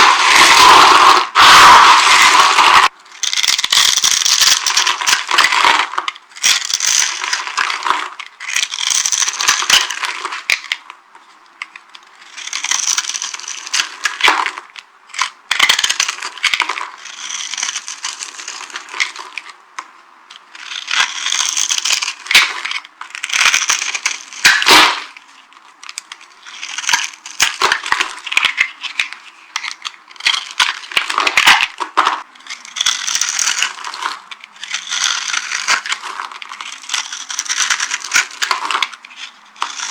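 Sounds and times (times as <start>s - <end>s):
dry soap crunching: 0.0s - 10.9s, 11.6s - 19.6s, 20.4s - 39.9s.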